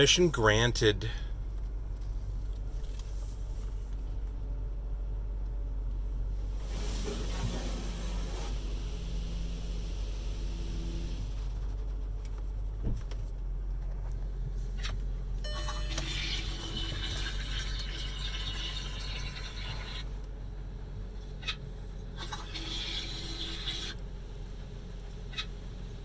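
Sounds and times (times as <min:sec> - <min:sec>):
low hum inside car: 0:00.0 - 0:26.0.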